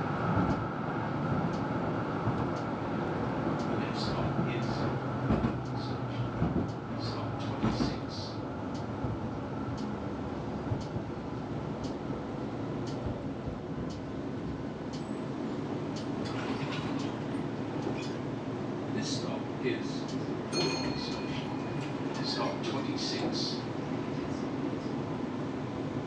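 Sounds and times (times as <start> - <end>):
tram rumbling on track: 0.0 - 26.0.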